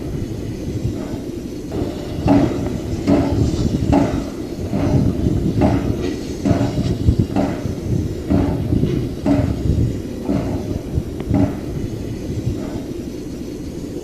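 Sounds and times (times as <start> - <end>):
steady low rumble: 0.0 - 14.0
steam locomotive chuffing: 0.0 - 14.0.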